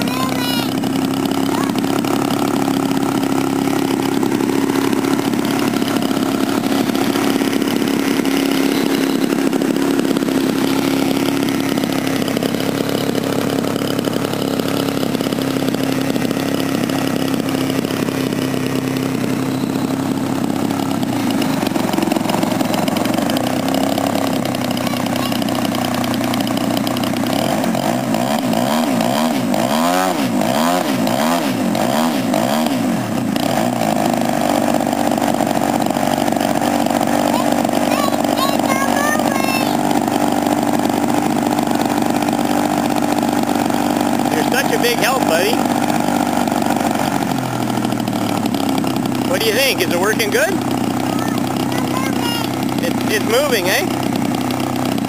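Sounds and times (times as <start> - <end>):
two-stroke engine with propeller running: 0.0 - 55.0.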